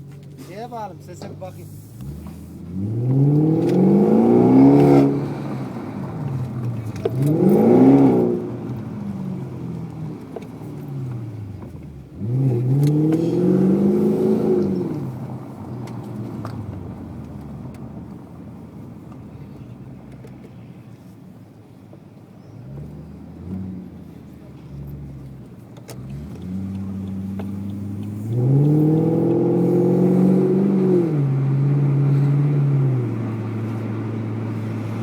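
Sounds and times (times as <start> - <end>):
car engine revving and idling: 0.0 - 35.0.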